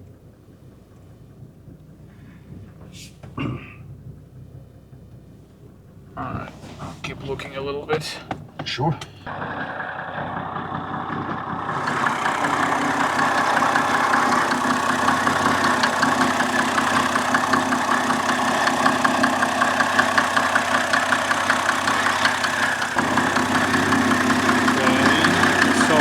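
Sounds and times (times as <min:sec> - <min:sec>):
diesel engine idling clatter: 0:00.0 - 0:26.0.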